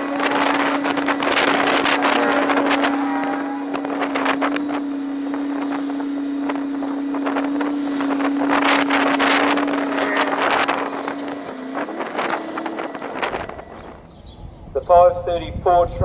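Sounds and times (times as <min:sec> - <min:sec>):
diesel train engine hum: 0:00.0 - 0:16.0
hiss: 0:00.2 - 0:13.3.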